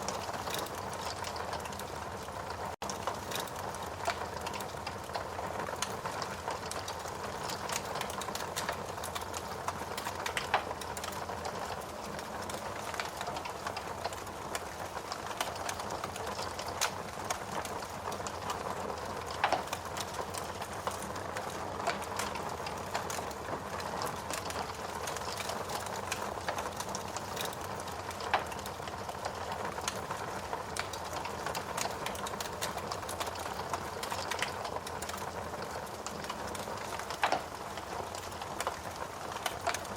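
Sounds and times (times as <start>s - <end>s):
fire hissing and crackling: 0.0s - 39.9s.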